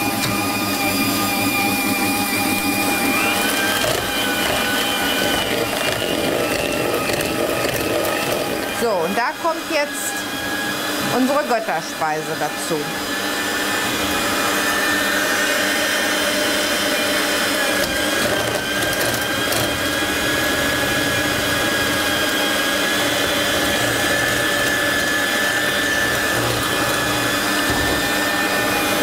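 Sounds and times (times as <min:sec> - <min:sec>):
hand mixer beating: 0:00.0 - 0:29.0
stand mixer whipping cream: 0:00.0 - 0:29.0.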